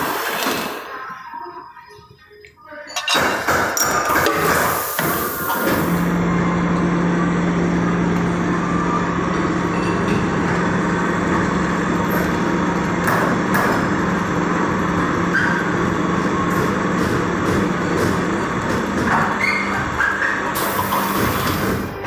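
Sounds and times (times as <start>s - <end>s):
machine motor hum and rumble: 4.3s - 22.0s.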